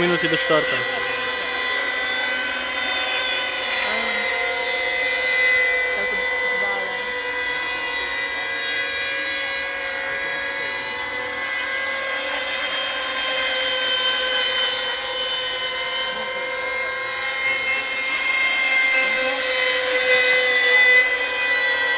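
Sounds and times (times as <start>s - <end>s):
racing boat motors buzzing: 0.0s - 21.9s.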